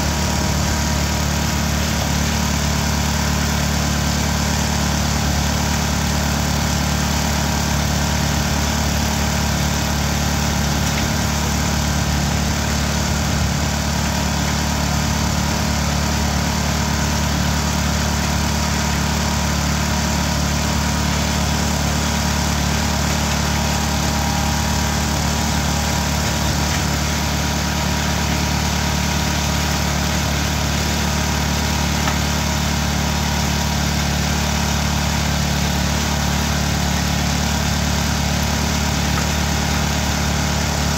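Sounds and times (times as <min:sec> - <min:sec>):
engine-driven crushing machine: 0:00.0 - 0:40.9.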